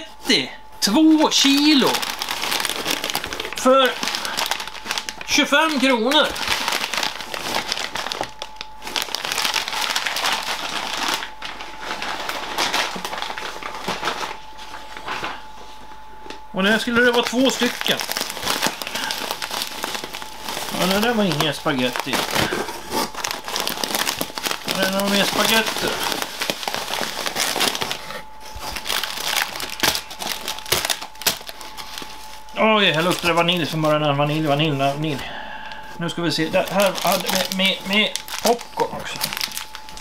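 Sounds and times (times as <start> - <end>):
packaging crinkling and rustling: 0.8 - 40.0.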